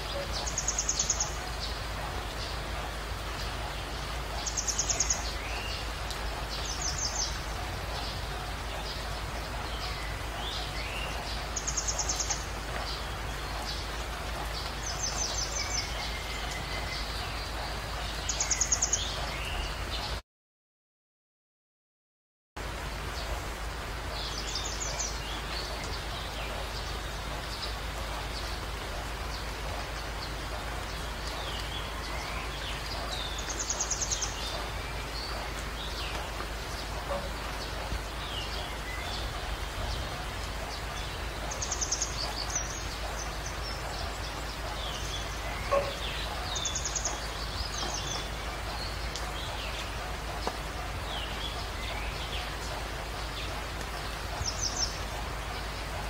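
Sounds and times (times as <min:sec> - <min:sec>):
birds chirping: 0:00.0 - 0:20.2, 0:22.6 - 0:56.0.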